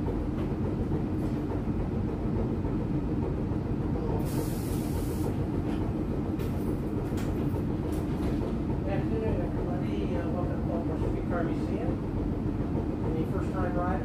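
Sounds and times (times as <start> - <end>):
streetcar rumbling on rails: 0.0 - 14.0.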